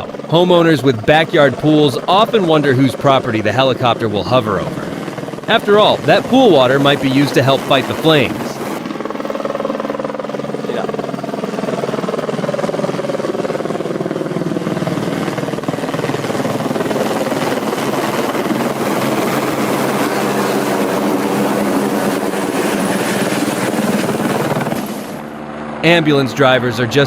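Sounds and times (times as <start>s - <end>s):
helicopter engine whine: 0.0s - 27.0s
helicopter rotor chop: 0.0s - 27.0s.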